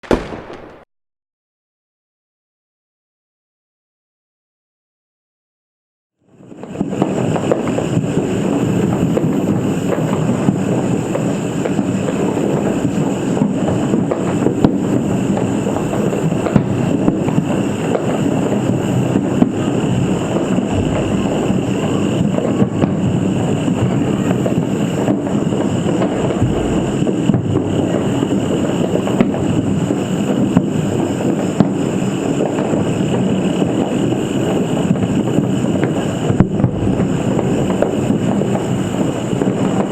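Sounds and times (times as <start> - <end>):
firecrackers crackling and cracking: 0.0 - 0.9, 6.3 - 39.9.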